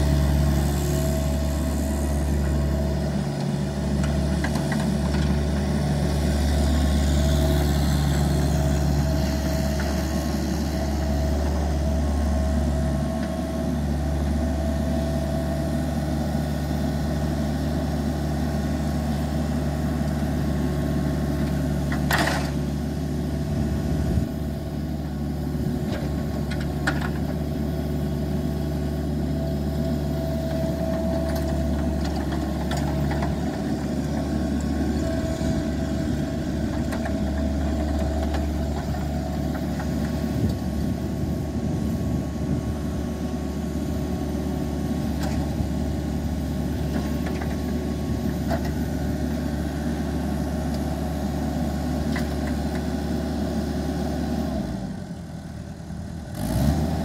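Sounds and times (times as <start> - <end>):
mower diesel engine running: 0.0 - 57.0.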